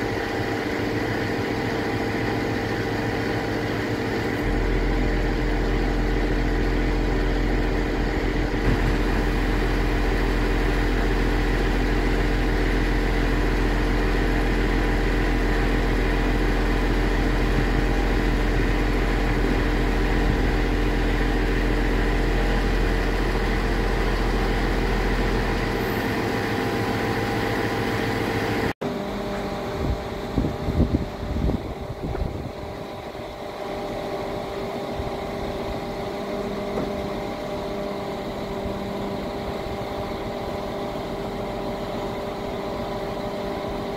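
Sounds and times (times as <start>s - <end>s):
crane hydraulics working: 0.0s - 43.9s
truck engine droning: 0.0s - 43.9s.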